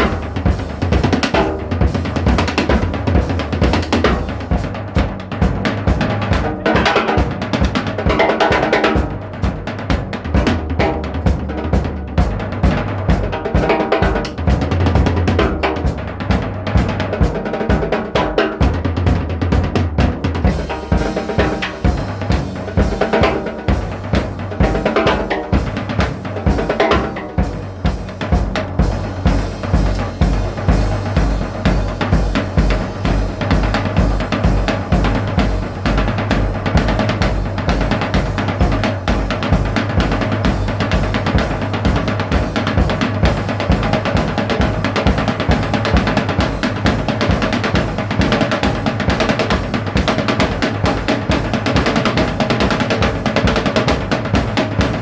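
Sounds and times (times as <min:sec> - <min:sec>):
kick drum: 0:00.0 - 0:55.0
music with drum kit: 0:00.0 - 0:55.0.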